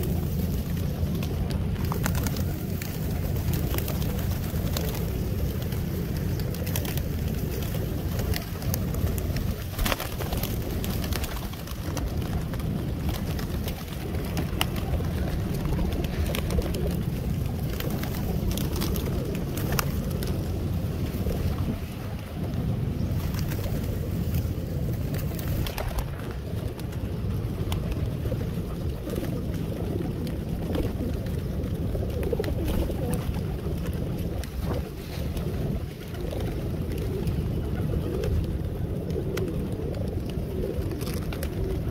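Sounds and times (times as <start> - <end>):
pigeons cooing: 0.0 - 41.9
wings flapping: 0.0 - 41.9.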